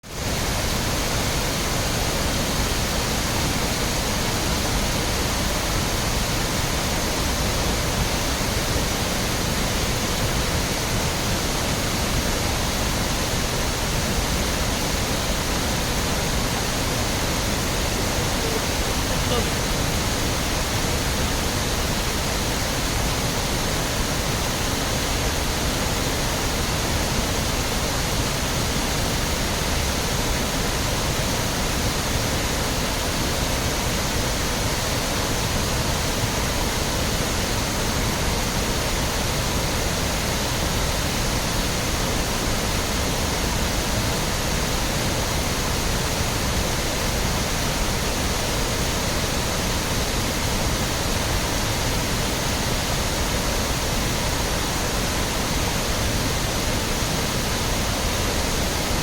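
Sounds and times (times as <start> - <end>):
waterfall roaring: 0.1 - 59.0.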